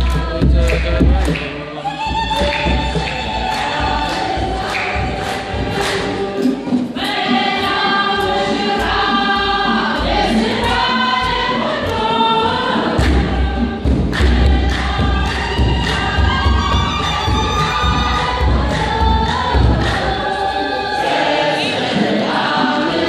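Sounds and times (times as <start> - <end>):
deep low beat: 0.0 - 20.4
sharp percussive strikes: 0.0 - 20.4
congregation singing a hymn: 0.0 - 23.0.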